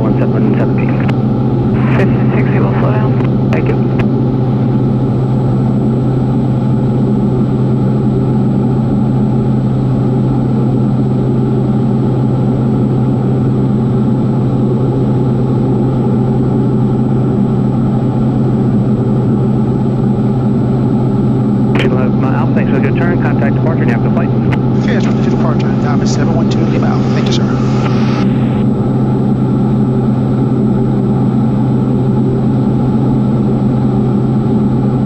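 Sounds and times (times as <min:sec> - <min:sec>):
aircraft engine and propeller drone: 0:00.0 - 0:35.0.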